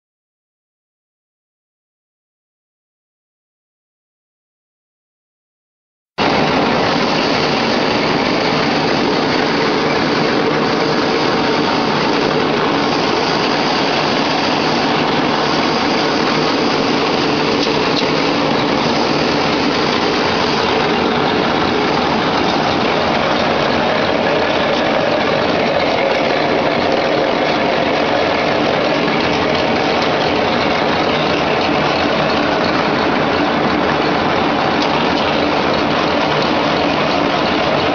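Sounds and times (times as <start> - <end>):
napkin folding machine running: 6.2 - 37.9.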